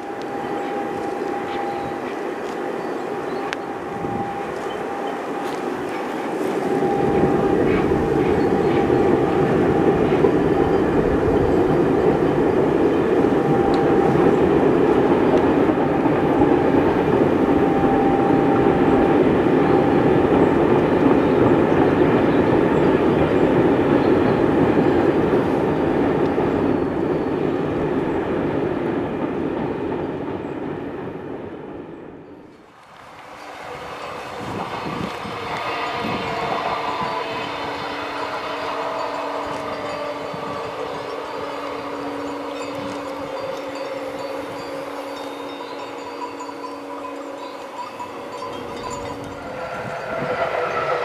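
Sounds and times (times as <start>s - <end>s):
freight train wheels rumbling: 0.0s - 51.0s.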